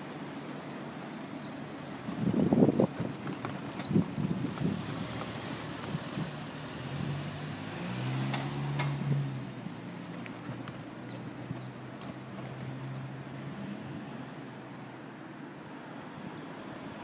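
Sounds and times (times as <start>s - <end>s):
wheels rolling on rough pavement: 0.0s - 17.0s.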